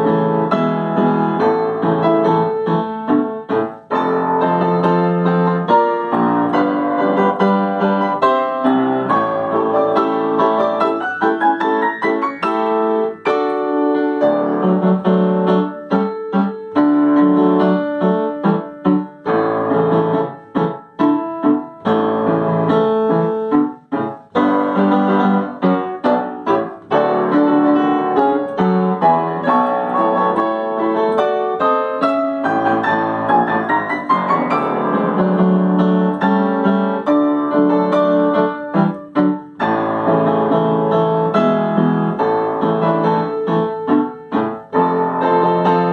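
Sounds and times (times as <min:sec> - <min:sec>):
upright piano playing fast runs: 0:00.0 - 0:45.9.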